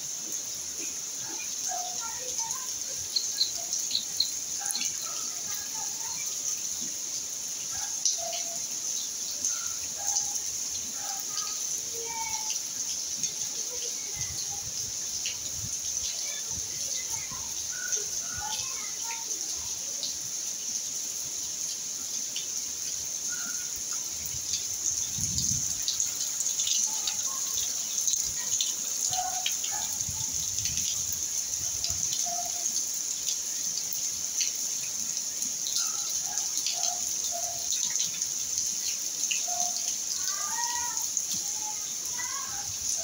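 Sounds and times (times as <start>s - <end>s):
rain falling and dripping: 0.0s - 43.0s.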